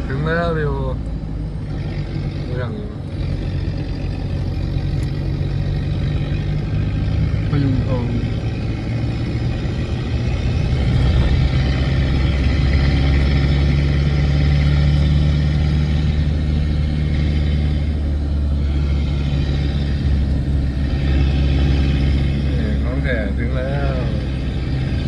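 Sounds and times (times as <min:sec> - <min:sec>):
road noise: 0:00.0 - 0:25.0
vehicle engine humming: 0:00.0 - 0:25.0.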